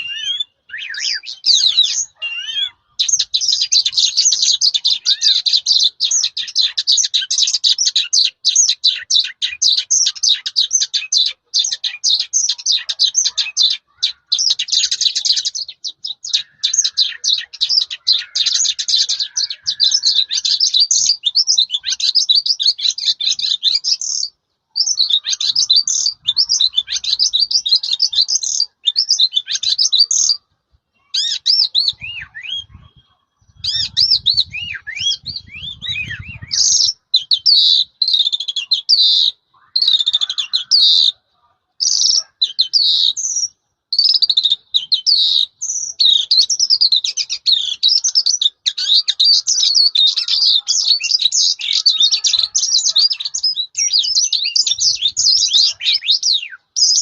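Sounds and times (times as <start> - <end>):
lark singing: 0.0 - 57.0.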